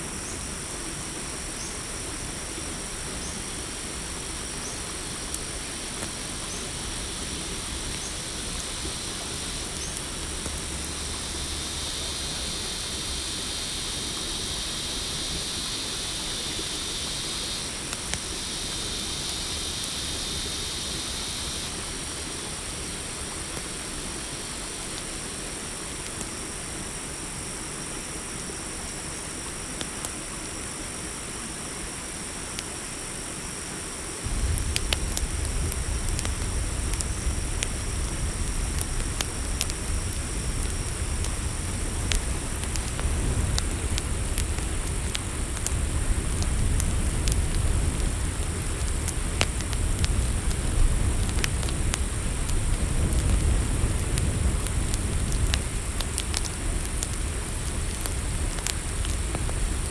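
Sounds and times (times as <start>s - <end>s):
constant low hiss: 0.0s - 59.9s
crickets and insects trilling: 0.0s - 59.9s
high insect chorus: 0.0s - 59.9s
campfire crackling: 0.1s - 32.6s, 34.2s - 59.9s.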